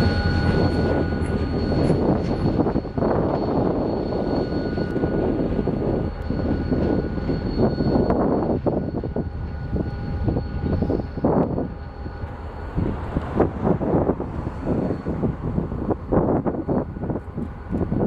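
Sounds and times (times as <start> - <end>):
diesel locomotive rumbling: 0.0 - 18.0
faint high whine: 0.0 - 18.0.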